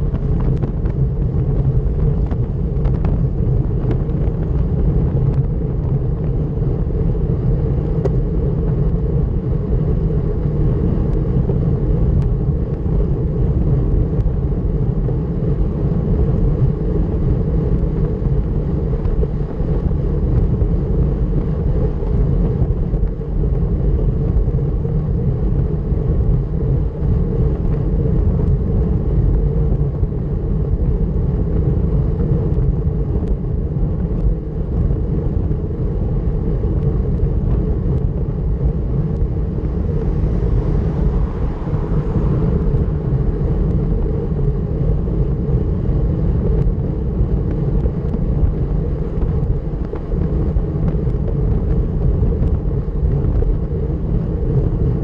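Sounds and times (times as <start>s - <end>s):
bicycle road noise: 0.0s - 55.0s
wind buffeting microphone: 0.0s - 55.0s.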